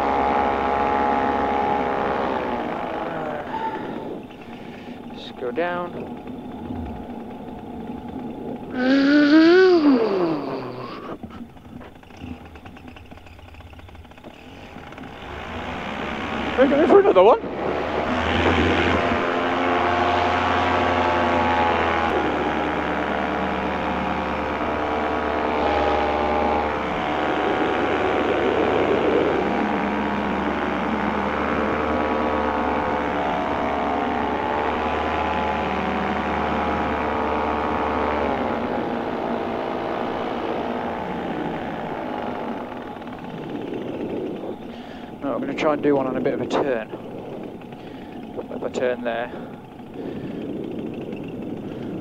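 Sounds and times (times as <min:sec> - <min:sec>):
paramotor engine and propeller: 0:00.0 - 0:52.0.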